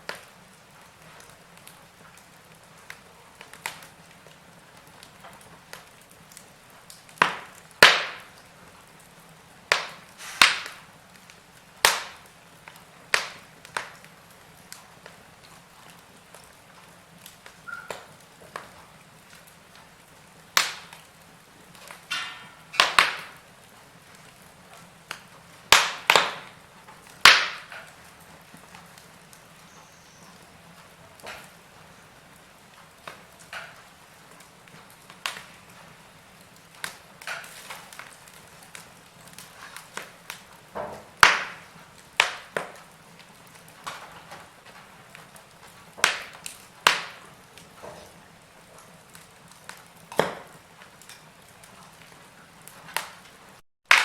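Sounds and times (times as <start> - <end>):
faint steady hiss: 0.0 - 53.6
wood fire crackling and popping: 0.0 - 54.0.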